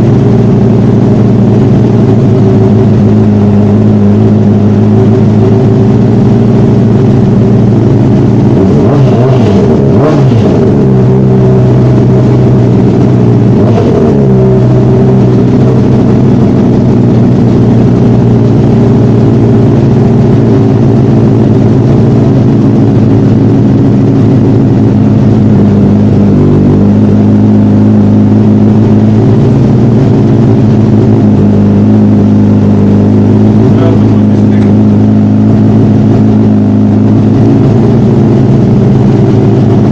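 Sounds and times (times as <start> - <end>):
sportbike engine running loudly: 0.0 - 39.9.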